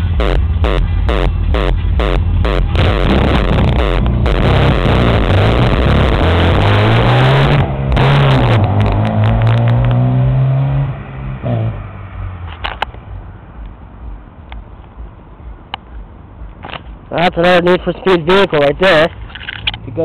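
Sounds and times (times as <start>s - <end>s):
car engine and exhaust accelerating: 0.0s - 20.0s.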